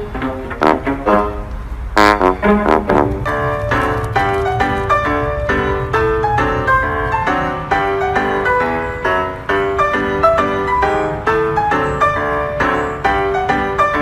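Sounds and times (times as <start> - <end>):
piano background music: 0.0 - 14.0.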